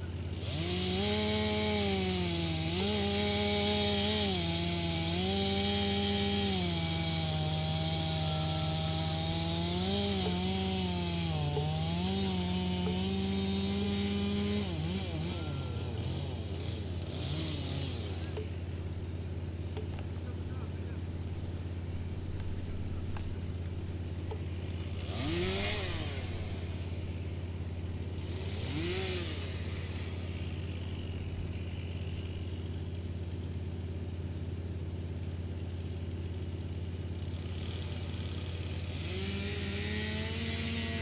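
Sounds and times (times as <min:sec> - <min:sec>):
wood chipper engine running: 0:00.0 - 0:41.0.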